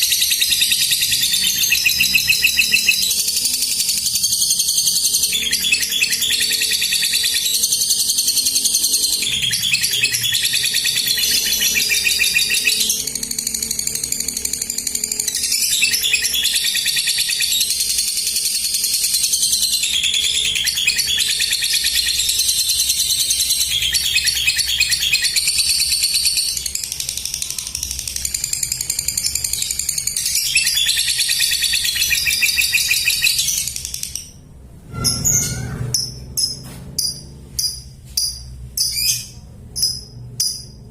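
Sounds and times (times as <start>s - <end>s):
lovebird high-pitched trilling: 0.0s - 40.8s.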